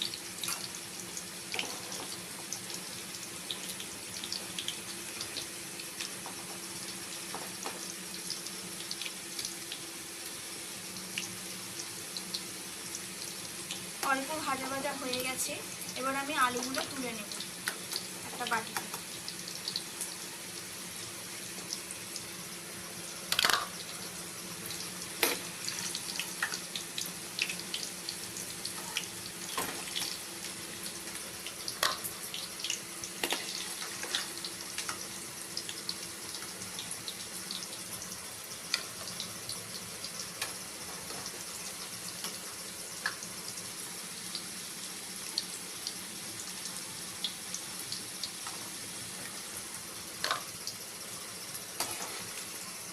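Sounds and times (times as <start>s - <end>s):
hot oil sizzling in a pan: 0.0s - 52.9s.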